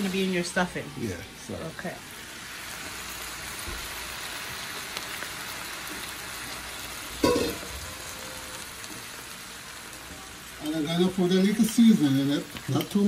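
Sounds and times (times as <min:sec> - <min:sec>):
spinach sizzling in a skillet: 0:00.0 - 0:13.0.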